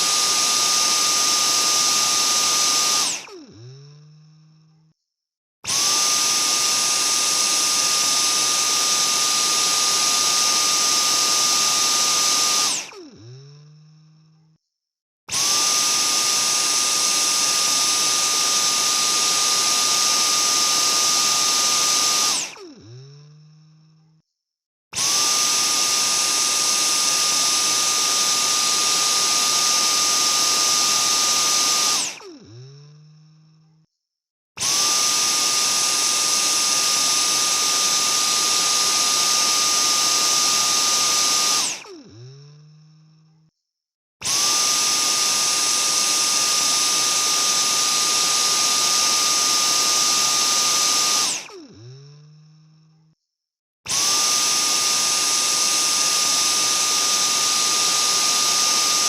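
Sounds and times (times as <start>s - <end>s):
vacuum cleaner motor whining: 0.0s - 4.8s, 5.6s - 14.4s, 15.3s - 24.0s, 25.0s - 33.6s, 34.6s - 43.3s, 44.2s - 52.9s, 53.9s - 59.0s.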